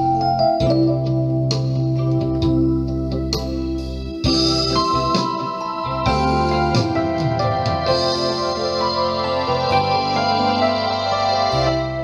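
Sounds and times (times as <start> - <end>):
electronic keyboard melody: 0.0 - 12.0
held low keyboard chord: 0.0 - 12.0.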